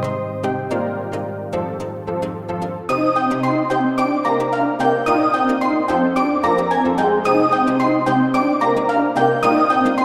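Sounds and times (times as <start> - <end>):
chill electronic instrumental music: 0.0 - 10.0.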